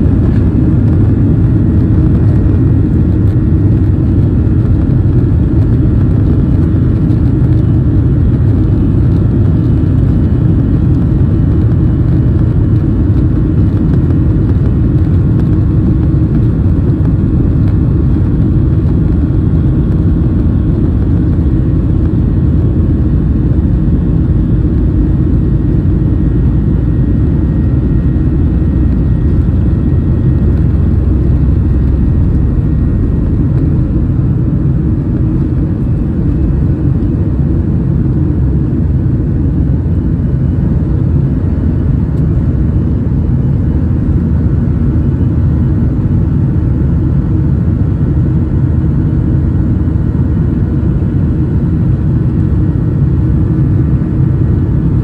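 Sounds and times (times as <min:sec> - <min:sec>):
aircraft cabin rumble: 0:00.0 - 0:55.0
faint steady hum: 0:00.0 - 0:55.0.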